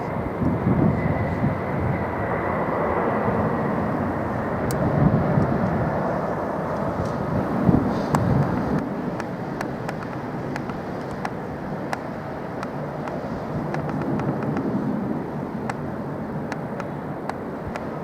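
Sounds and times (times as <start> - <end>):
jet airliner engines roaring: 0.0 - 18.0.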